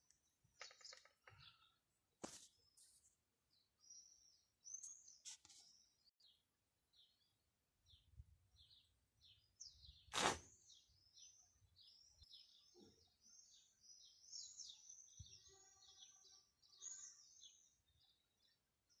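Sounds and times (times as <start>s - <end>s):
faint songbirds chirping: 0.0s - 19.0s.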